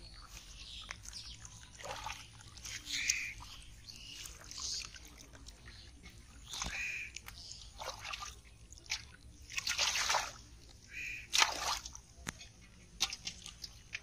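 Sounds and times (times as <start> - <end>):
hands splashing in water: 0.3 - 5.6, 6.4 - 12.1, 12.9 - 14.0.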